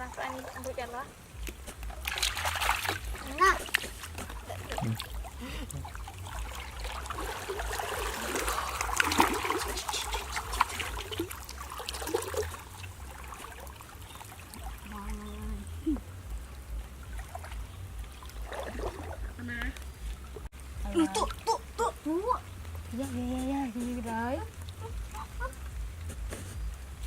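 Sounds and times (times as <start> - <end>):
water splashing and trickling: 0.0 - 27.0.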